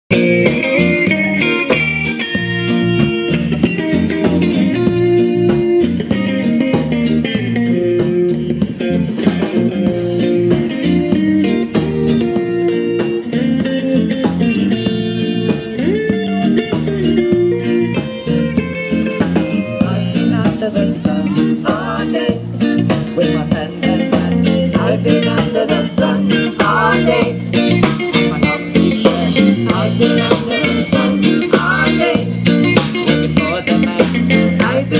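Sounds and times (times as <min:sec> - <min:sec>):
bass: 0:00.0 - 0:34.9
guitar: 0:00.0 - 0:34.9
live band playing: 0:00.1 - 0:34.9.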